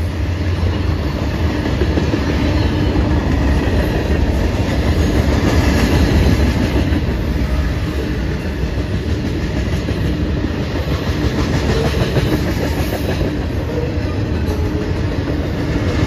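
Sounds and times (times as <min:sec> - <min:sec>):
freight train rolling past: 0:00.0 - 0:16.0
steel wheels clattering on rails: 0:00.0 - 0:16.0.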